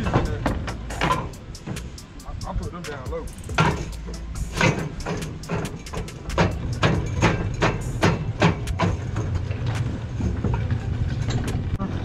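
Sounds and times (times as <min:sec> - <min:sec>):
sharp knocks: 0:00.0 - 0:02.2, 0:02.9 - 0:10.6.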